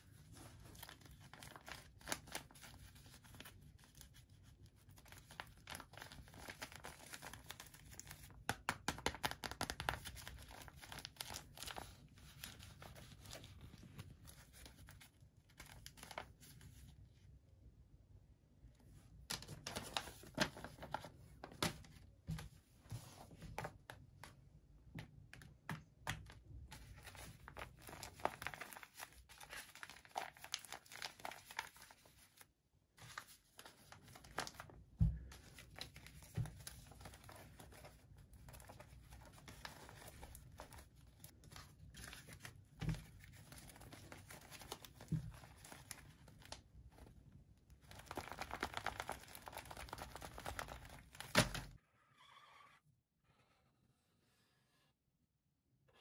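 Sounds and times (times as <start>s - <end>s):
paper squishies crinkling: 0.2s - 16.9s, 19.1s - 24.4s, 25.3s - 51.7s.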